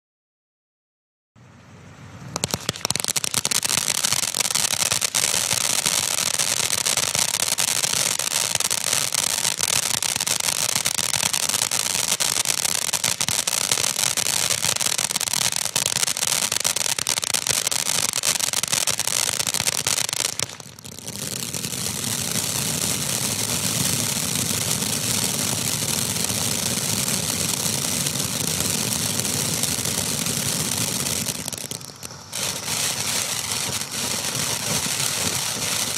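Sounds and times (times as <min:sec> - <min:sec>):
fountain firework hissing and crackling: 0:02.3 - 0:35.9.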